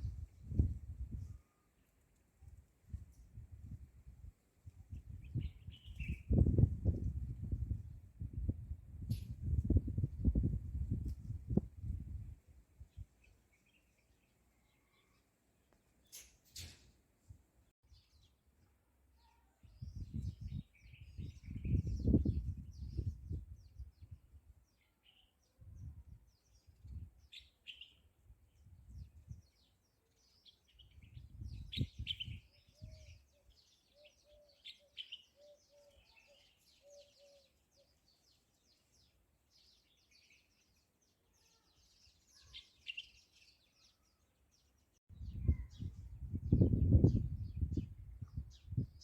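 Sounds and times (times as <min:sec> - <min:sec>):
small birds chirping: 0:00.0 - 0:08.4, 0:09.0 - 0:16.8, 0:19.2 - 0:49.0.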